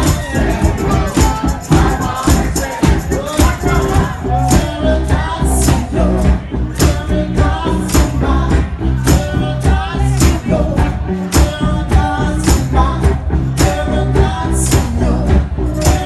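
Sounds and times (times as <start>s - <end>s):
blues-rock beat: 0.0s - 16.0s.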